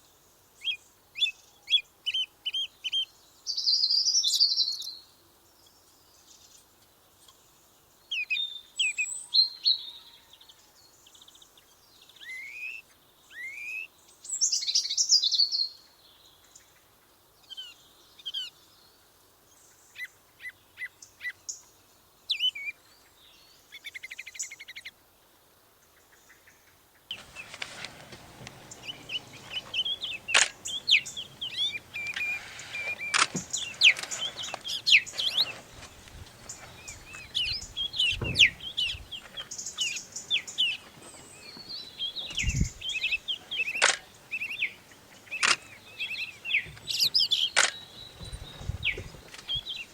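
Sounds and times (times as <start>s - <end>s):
songbirds chirping: 0.0s - 49.9s
steady background hiss: 0.0s - 49.9s.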